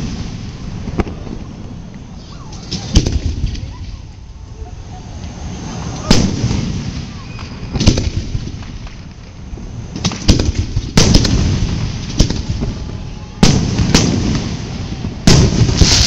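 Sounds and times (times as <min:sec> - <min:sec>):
fireworks shells bursting with booms: 0:00.0 - 0:04.4, 0:05.1 - 0:16.0
low rolling rumble: 0:00.0 - 0:16.0.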